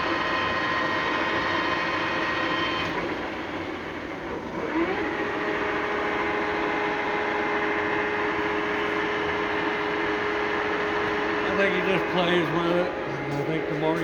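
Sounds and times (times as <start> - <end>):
lathe gear whine: 0.0 - 14.0.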